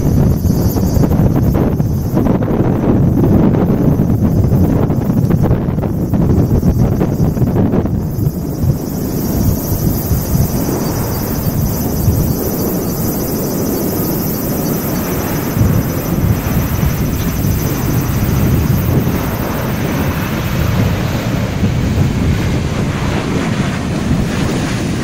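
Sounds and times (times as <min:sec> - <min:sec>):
gusty wind buffeting microphone: 0:00.0 - 0:25.0
thin high engine whine: 0:00.0 - 0:25.0
turboprop engines and propellers: 0:00.0 - 0:25.0.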